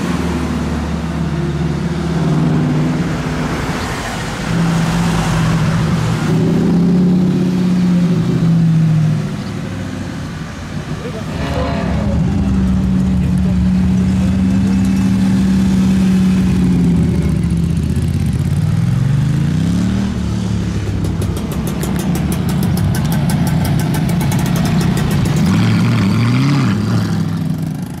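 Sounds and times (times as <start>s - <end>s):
loud car engine revving: 0.0s - 28.0s.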